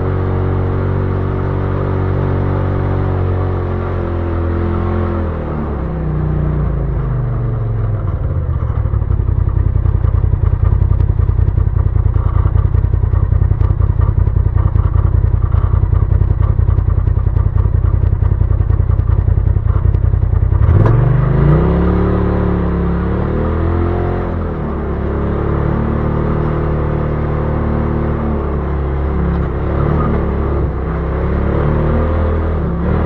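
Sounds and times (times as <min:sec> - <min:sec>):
utility vehicle engine revving: 0:00.0 - 0:33.0.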